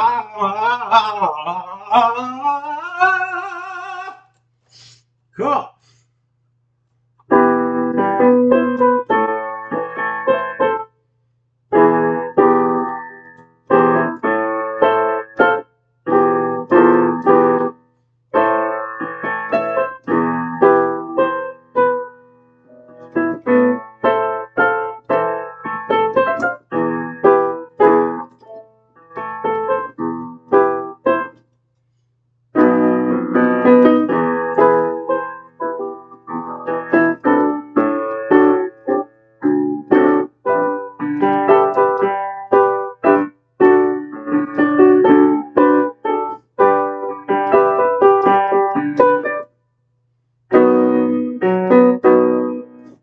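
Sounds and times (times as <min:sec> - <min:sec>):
keyboard playing piano chords: 0:07.2 - 0:11.0, 0:11.7 - 0:31.4, 0:32.5 - 0:49.6, 0:50.5 - 0:53.0.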